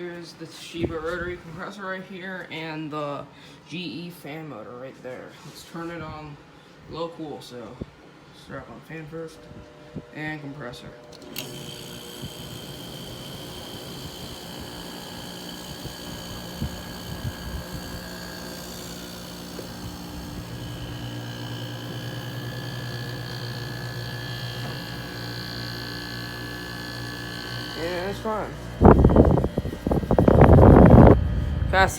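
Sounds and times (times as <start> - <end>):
air conditioner humming: 0.0 - 31.9.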